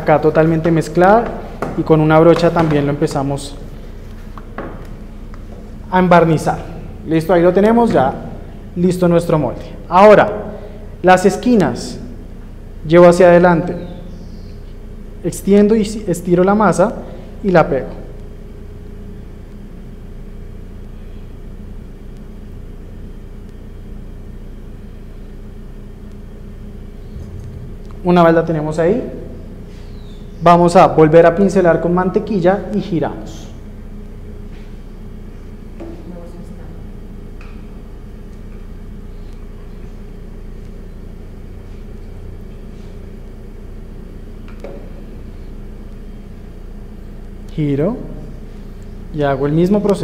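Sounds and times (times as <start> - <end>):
mechanical hum and rumble: 0.0 - 50.0.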